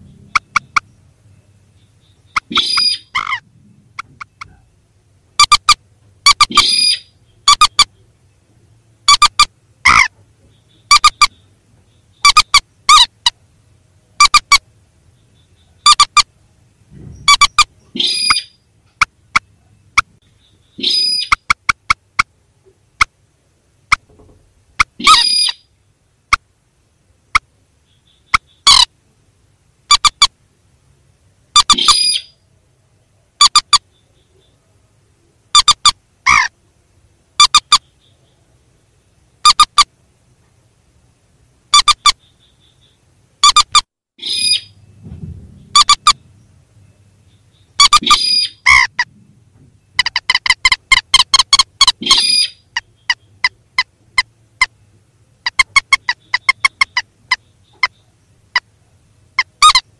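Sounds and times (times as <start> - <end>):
rail bird calls: 0.0 - 26.5, 27.2 - 29.2, 29.8 - 30.4, 31.2 - 40.8, 41.4 - 59.9.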